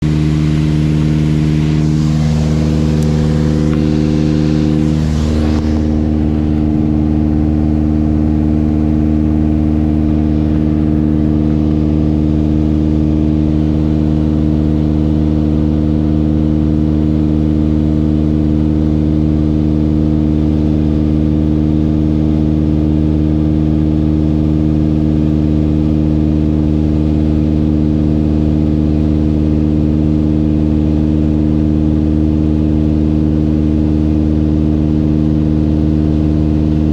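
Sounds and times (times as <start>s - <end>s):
aircraft engine and propeller droning: 0.0s - 36.9s.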